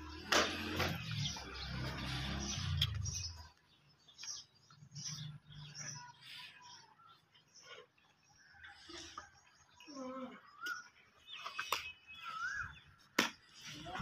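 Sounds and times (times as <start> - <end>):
faint bird chirps: 1.1 - 14.0.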